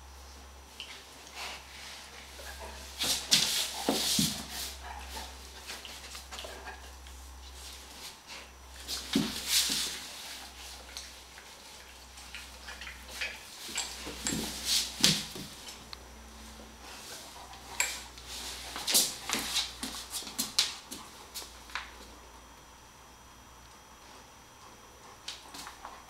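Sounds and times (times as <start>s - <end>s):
dogs playing: 0.7s - 22.5s, 23.7s - 26.0s.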